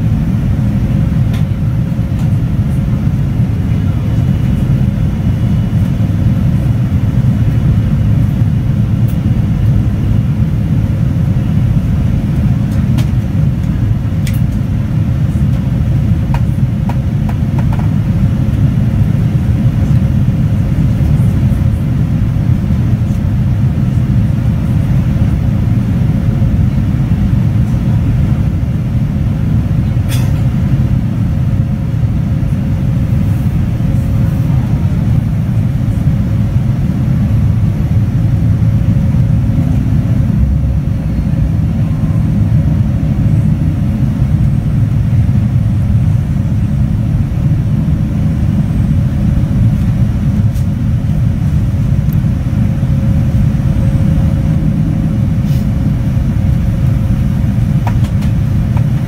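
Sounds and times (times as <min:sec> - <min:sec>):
airplane cabin engine roar: 0:00.0 - 0:59.0
faint steady hum: 0:00.0 - 0:59.0.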